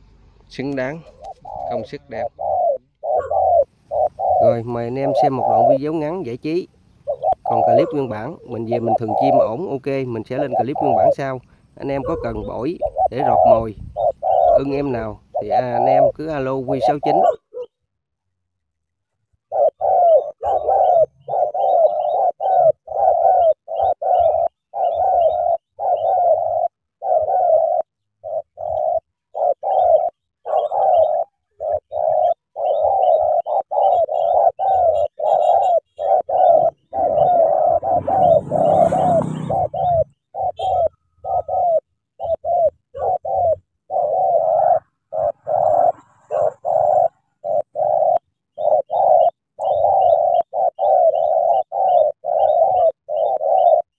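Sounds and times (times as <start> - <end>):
doves cooing: 0.0 - 17.8, 19.4 - 53.9.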